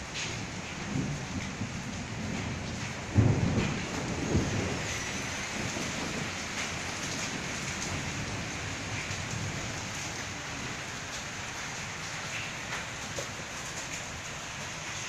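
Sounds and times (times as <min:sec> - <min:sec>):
heavy rain and hail: 0:00.0 - 0:15.0.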